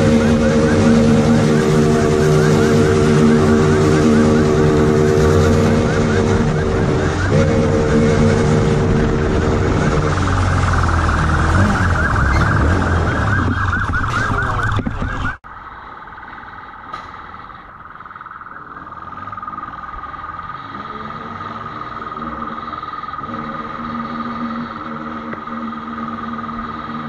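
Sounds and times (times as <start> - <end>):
motorcycle engine and road noise: 0.0 - 27.0
police siren: 0.0 - 27.0.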